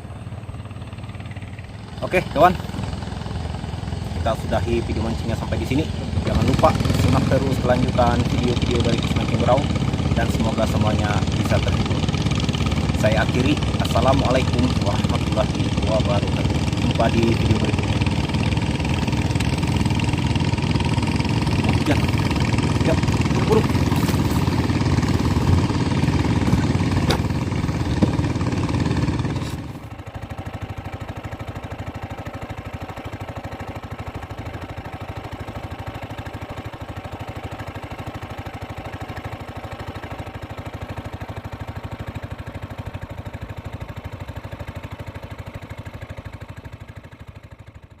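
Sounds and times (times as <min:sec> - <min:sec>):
small engine running: 0:00.0 - 0:48.0.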